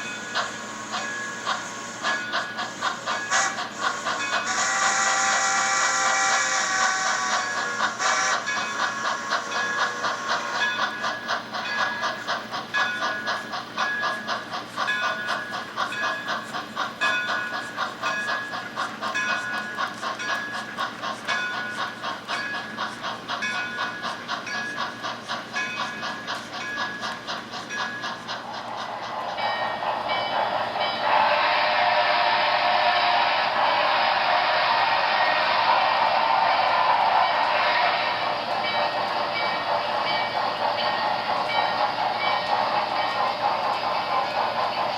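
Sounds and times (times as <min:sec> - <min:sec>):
model steam locomotive chuffing: 0:00.0 - 0:44.9
steam hissing: 0:00.0 - 0:44.9.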